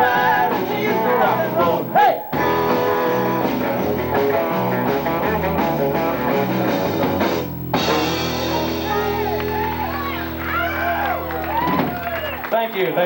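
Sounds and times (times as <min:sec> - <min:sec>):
rock band guitar and drums: 0:00.0 - 0:12.6
ringing guitar chord: 0:00.9 - 0:12.1.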